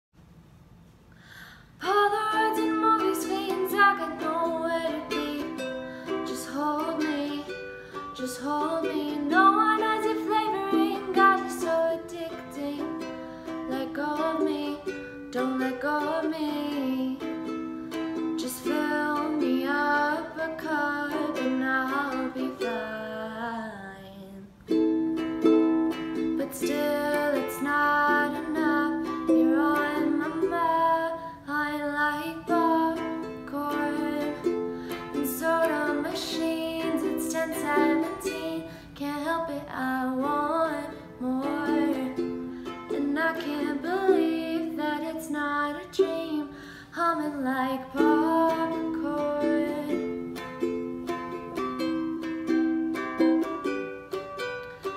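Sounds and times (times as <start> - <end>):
young woman singing: 1.8 - 17.6, 18.2 - 24.6, 26.2 - 52.2
ukulele playing: 1.8 - 54.9.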